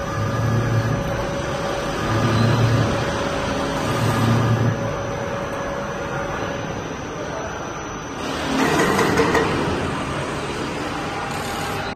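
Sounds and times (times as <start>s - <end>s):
lathe machine whine: 0.0s - 11.9s
low machine hum: 0.0s - 11.9s.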